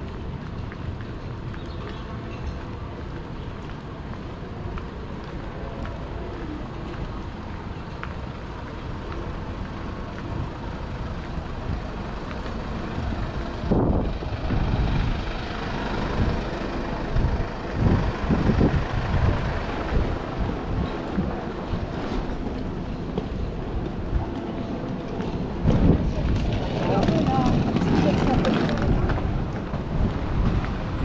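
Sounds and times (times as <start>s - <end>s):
city street traffic rumble: 0.0s - 31.0s
vehicles passing: 0.0s - 31.0s.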